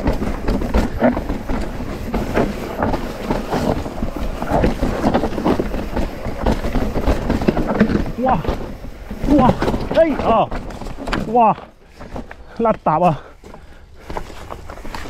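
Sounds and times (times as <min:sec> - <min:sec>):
low rumble of tyres: 0:00.0 - 0:12.6, 0:13.2 - 0:15.0
bike frame rattling: 0:00.0 - 0:15.0.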